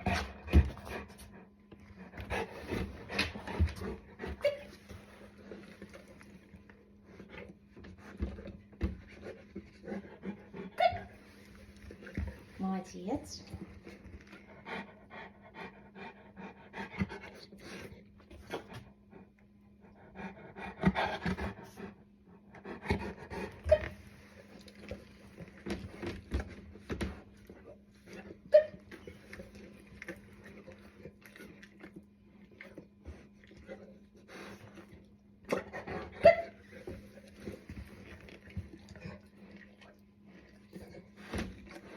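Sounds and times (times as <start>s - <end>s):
dog panting: 0.0s - 12.8s, 13.4s - 41.9s.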